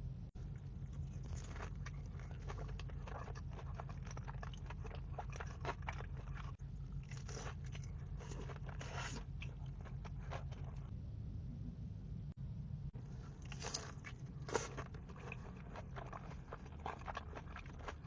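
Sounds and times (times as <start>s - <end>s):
person chewing crunchy food: 0.4s - 10.9s, 13.0s - 18.0s.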